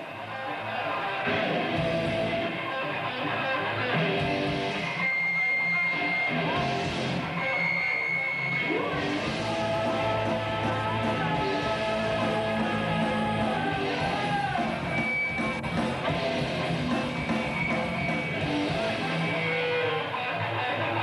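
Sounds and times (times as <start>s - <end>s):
electric guitars: 0.0s - 21.0s
metal band playing live: 0.0s - 21.0s.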